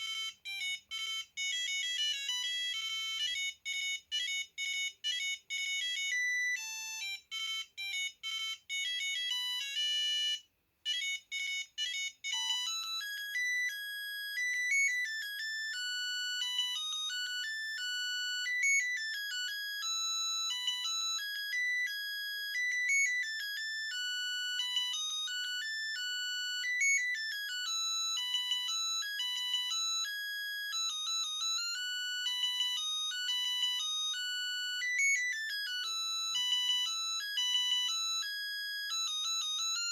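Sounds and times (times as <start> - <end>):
phone ringtone beeping melodies: 0.0 - 39.9.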